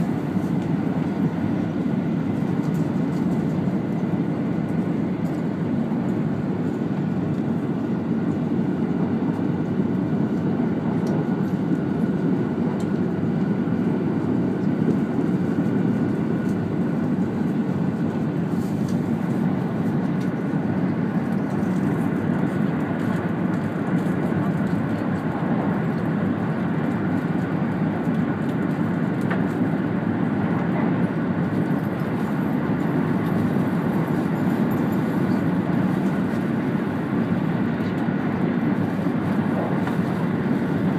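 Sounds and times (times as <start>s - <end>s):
train interior rumble: 0.0s - 40.9s.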